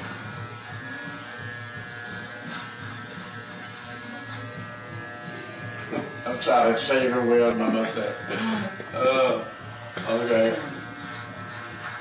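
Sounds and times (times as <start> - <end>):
electric beard trimmer buzzing: 0.0 - 12.0.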